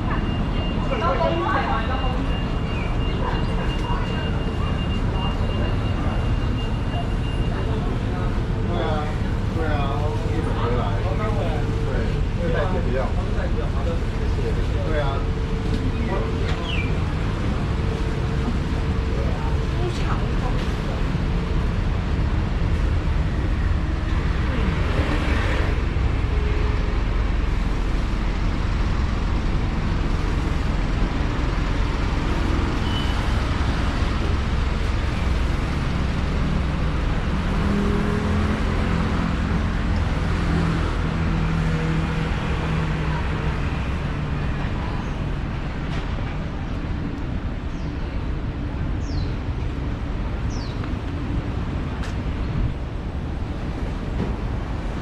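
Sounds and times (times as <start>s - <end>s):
street traffic rumble: 0.0s - 55.0s
vehicle engine humming: 0.0s - 55.0s.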